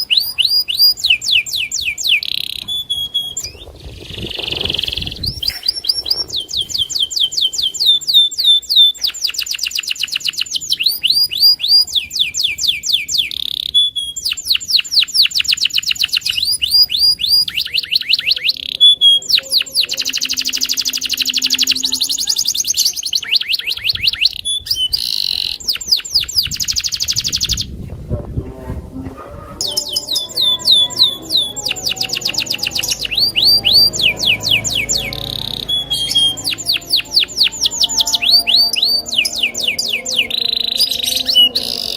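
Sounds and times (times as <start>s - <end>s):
canary singing trilled notes: 0.0s - 27.8s, 29.1s - 41.9s.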